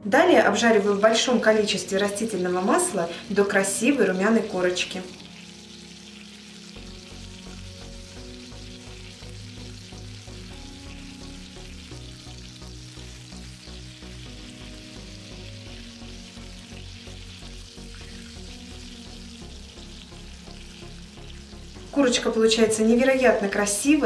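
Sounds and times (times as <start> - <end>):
quiet background music: 0.0 - 24.0
chicken sizzling in oil: 0.1 - 24.0.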